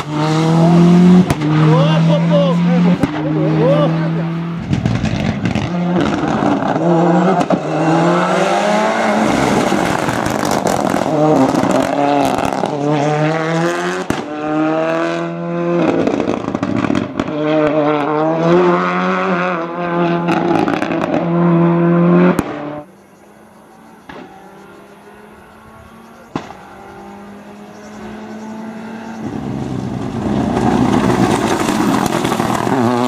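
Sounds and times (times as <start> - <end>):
rally car engine at full throttle: 0.0 - 33.0.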